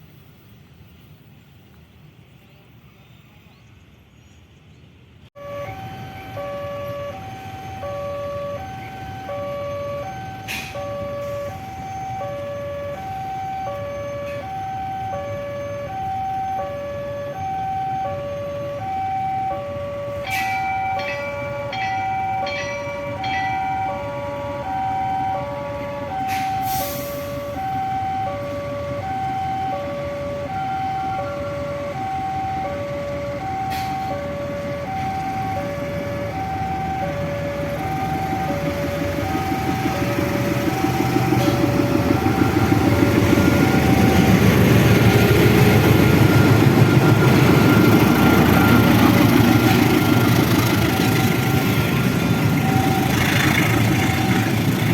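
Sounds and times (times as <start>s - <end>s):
level crossing two-tone alarm: 5.4s - 54.9s
train rumbling past: 5.4s - 54.9s.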